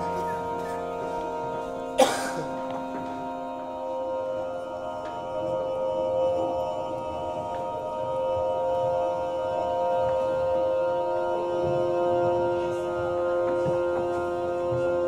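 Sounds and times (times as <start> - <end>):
ambient drone music: 0.0 - 15.0.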